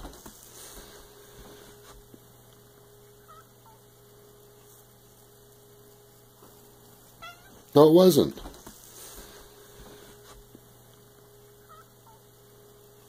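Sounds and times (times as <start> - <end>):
faint mains hum: 0.0 - 13.0.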